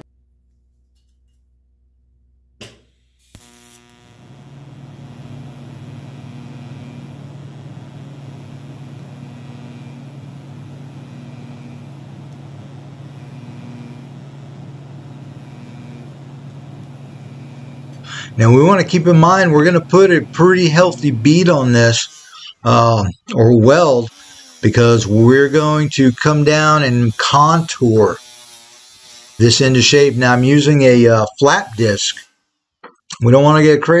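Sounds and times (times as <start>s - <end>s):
welding arc buzzing hum: 0.0s - 22.9s, 23.7s - 32.4s.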